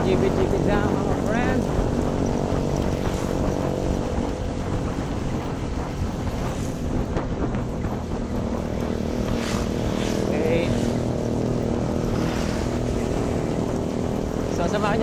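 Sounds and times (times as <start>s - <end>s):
scooter engine running: 0.0s - 15.0s
wind buffeting microphone: 0.0s - 15.0s.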